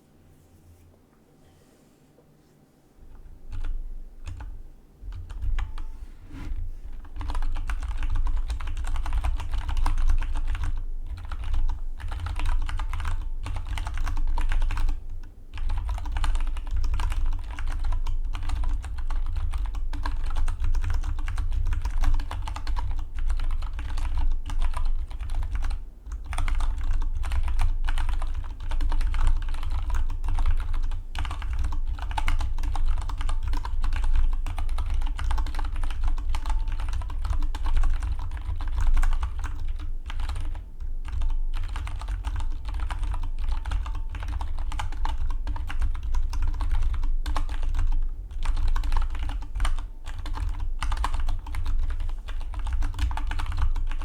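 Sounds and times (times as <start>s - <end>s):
fast typing on mechanical keyboard: 3.5s - 4.5s, 7.1s - 54.0s.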